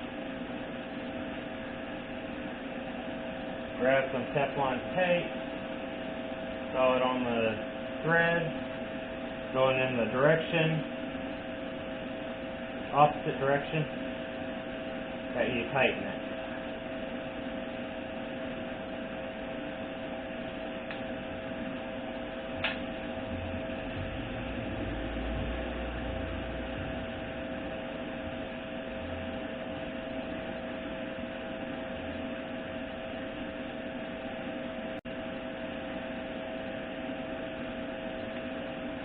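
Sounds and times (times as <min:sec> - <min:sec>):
steady two-tone hum: 0:00.0 - 0:39.0.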